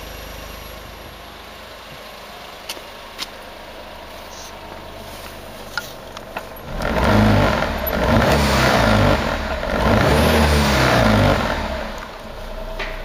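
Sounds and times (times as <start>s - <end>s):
engine revving from idle: 0.0s - 13.0s.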